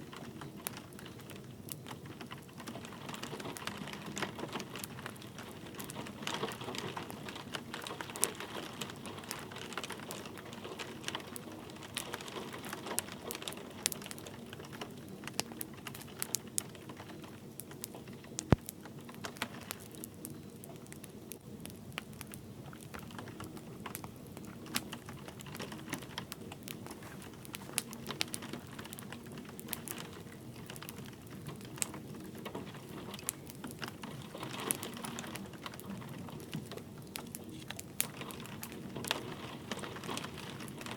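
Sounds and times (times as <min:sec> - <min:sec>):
light rain hiss: 0:00.0 - 0:40.9
wood fire crackling: 0:00.0 - 0:40.9.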